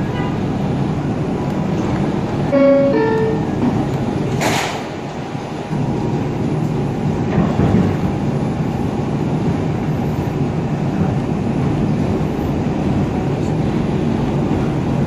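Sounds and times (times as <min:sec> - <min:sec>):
subway car rumbling: 0:00.0 - 0:15.0.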